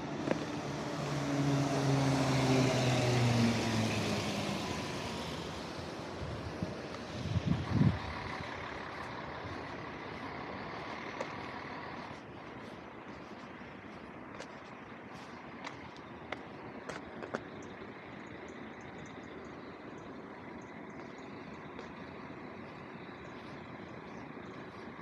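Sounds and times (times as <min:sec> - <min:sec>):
bus engine driving past: 0:00.0 - 0:25.0
distant traffic: 0:00.0 - 0:25.0
road and tyre noise: 0:00.0 - 0:25.0.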